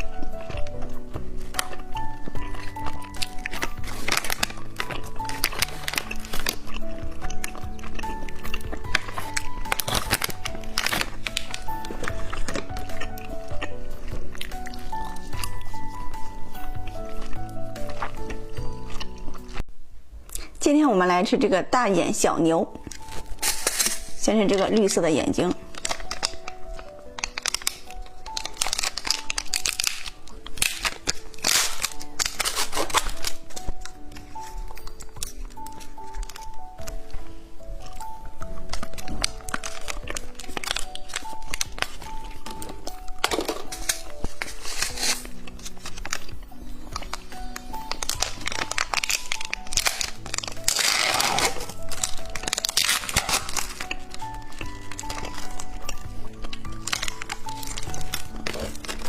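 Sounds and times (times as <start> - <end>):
plastic packaging crinkling: 0.0 - 19.6, 22.7 - 59.0
light background music: 0.0 - 19.7, 20.3 - 59.0.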